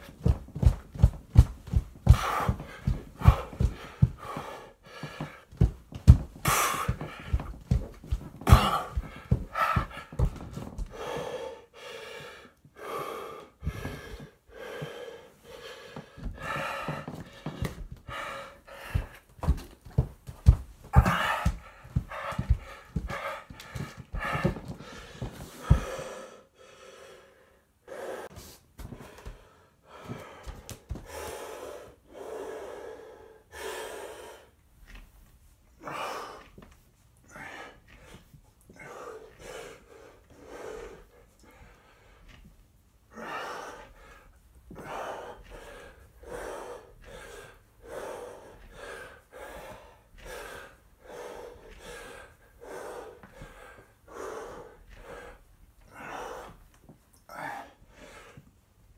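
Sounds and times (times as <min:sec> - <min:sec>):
man breathing hard: 0:00.0 - 0:34.7, 0:35.7 - 0:58.7.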